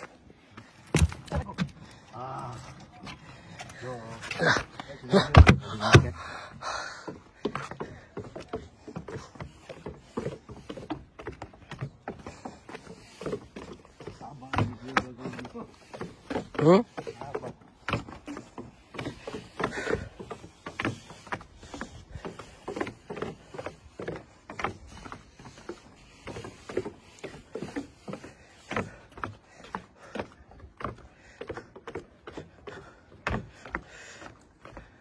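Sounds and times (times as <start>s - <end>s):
footsteps on wooden boards: 0.0s - 35.0s.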